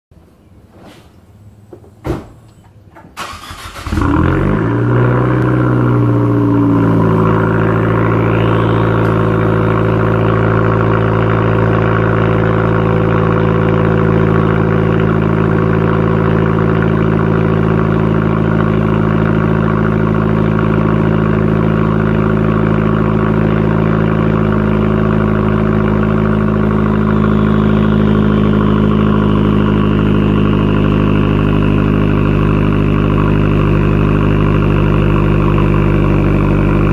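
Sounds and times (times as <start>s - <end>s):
car engine cranking and idling: 1.3s - 36.9s.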